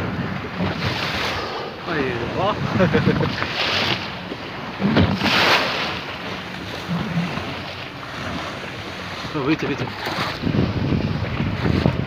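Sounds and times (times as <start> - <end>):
sea water rushing and splashing: 0.0 - 12.0
wind buffeting microphone: 0.0 - 12.0.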